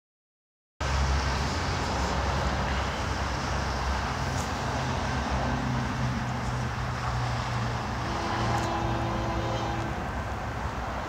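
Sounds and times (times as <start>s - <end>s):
freight train rumbling past: 0.8s - 11.0s.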